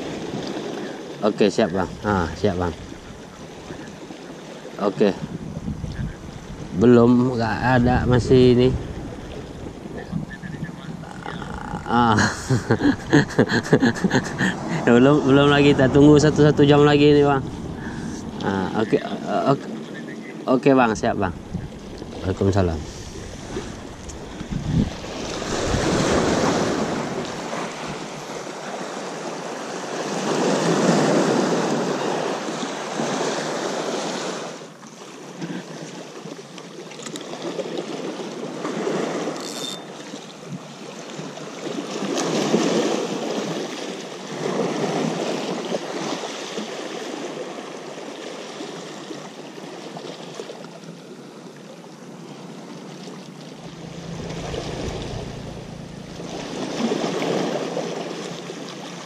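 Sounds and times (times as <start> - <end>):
sea waves washing on shore: 0.0 - 59.0
wind: 0.0 - 59.0.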